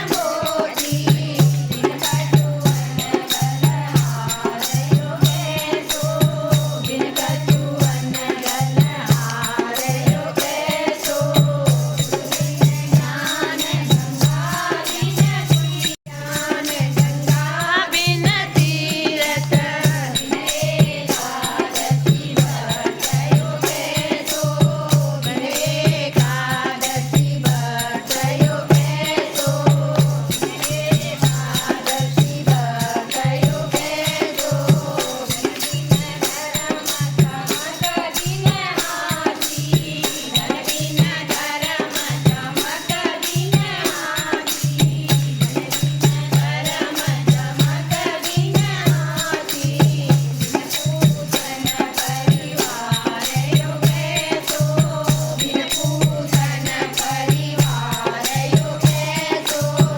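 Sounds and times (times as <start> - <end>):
group of voices singing in chorus: 0.0 - 59.9
jingling hand percussion: 0.0 - 59.9.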